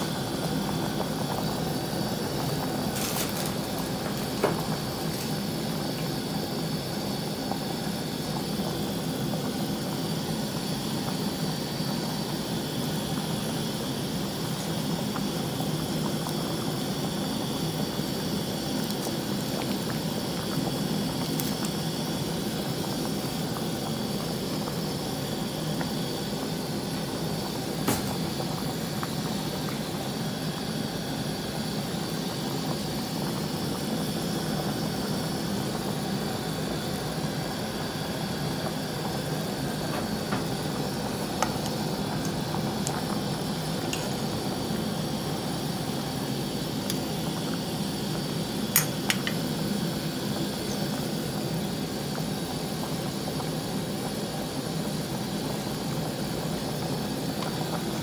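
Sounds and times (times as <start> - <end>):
broth boiling and bubbling: 0.0 - 58.0.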